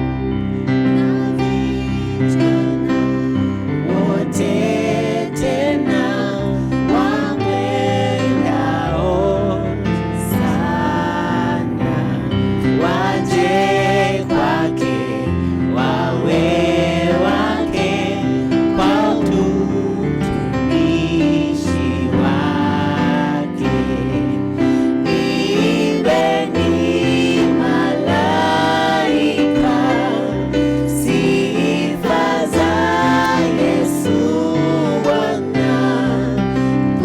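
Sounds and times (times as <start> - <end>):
sustained keyboard chords: 0.0 - 37.0
voices singing gospel: 0.0 - 37.0.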